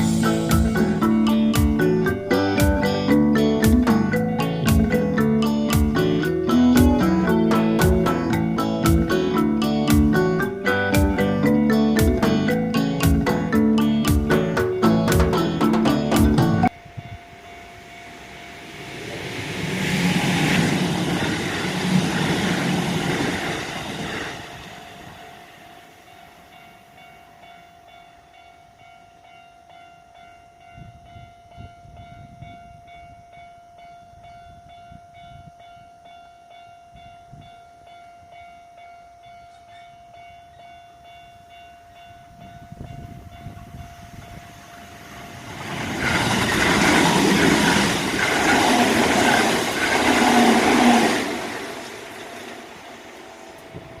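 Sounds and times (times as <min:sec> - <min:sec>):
railroad crossing bell ringing: 0:00.0 - 0:54.0
train passing with rhythmic clatter: 0:00.0 - 0:54.0.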